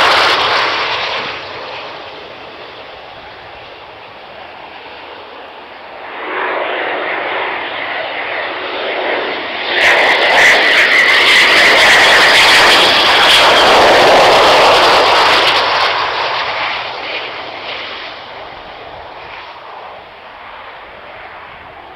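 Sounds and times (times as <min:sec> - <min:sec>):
jet engines rushing and whining: 0:00.0 - 0:21.9.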